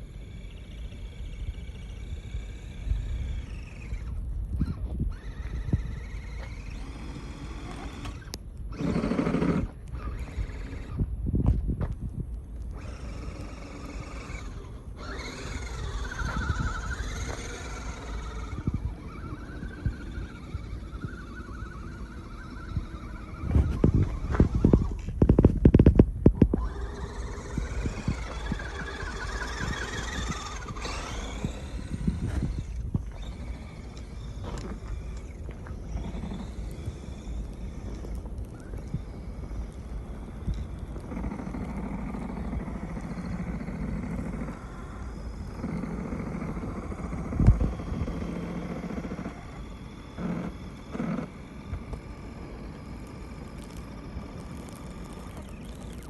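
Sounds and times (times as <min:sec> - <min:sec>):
electric motor and gears whining: 0:00.0 - 0:56.0.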